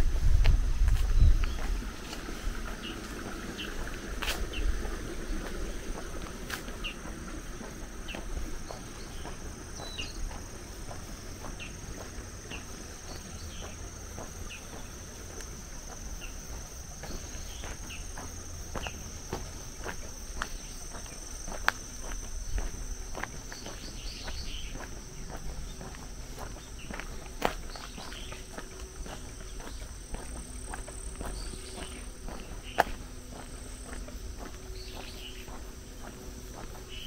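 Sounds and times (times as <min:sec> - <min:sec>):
footsteps on pavement: 0:00.0 - 0:37.0
insects chorus: 0:00.0 - 0:37.0.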